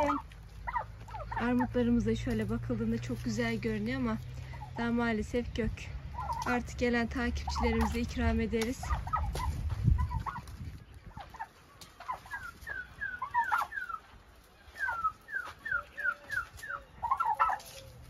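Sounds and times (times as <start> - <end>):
turkeys calling: 0.0 - 5.2, 6.0 - 18.0.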